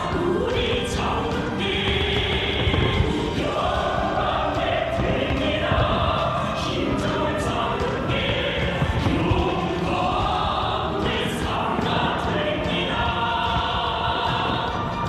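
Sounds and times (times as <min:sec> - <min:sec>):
choir singing: 0:00.0 - 0:15.0
musical accompaniment: 0:00.0 - 0:15.0.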